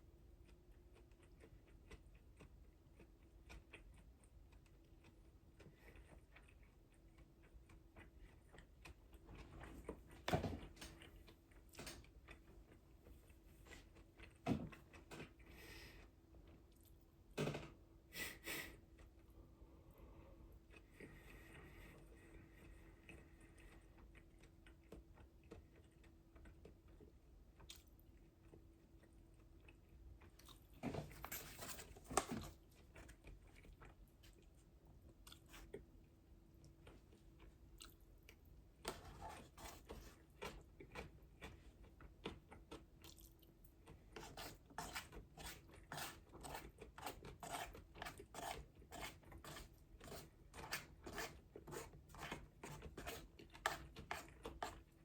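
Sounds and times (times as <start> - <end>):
person chewing and crunching food: 0.1 - 17.2, 18.8 - 31.1, 31.8 - 55.0.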